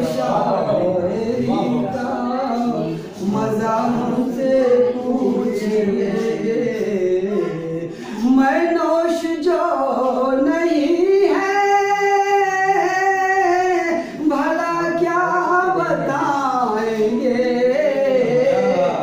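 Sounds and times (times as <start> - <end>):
man singing melodically: 0.0 - 19.0.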